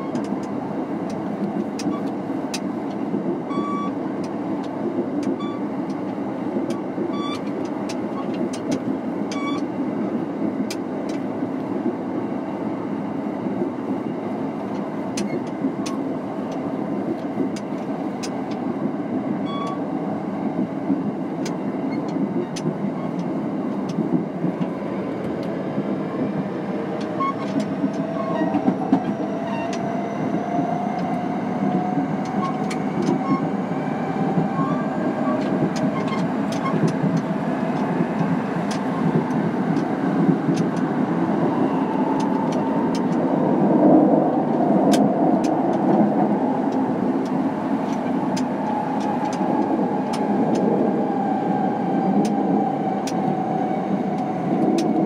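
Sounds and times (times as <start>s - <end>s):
electric train rumbling: 0.0s - 55.0s.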